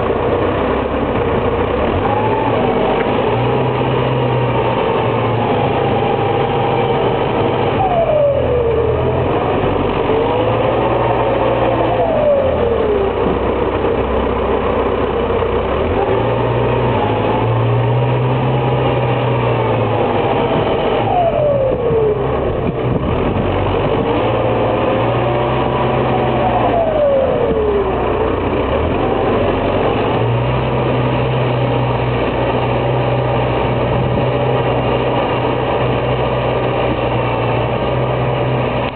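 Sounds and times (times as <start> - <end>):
tractor diesel engine labouring: 0.0 - 38.9.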